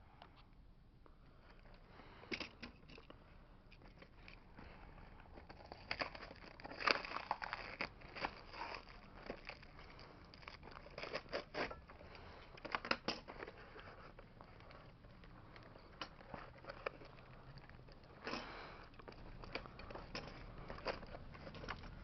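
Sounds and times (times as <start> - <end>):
cardboard and plastic rustling: 1.4 - 22.0.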